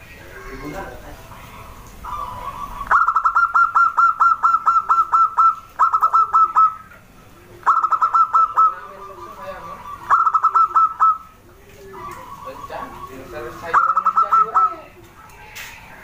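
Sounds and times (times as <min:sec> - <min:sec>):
dove singing clipped cooing notes: 0:01.3 - 0:16.0.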